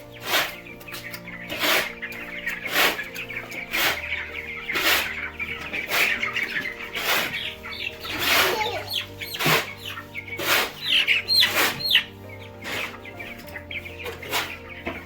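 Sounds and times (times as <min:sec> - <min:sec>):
background music with beat: 0:00.0 - 0:15.0
chicks peeping and clucking: 0:00.0 - 0:15.0.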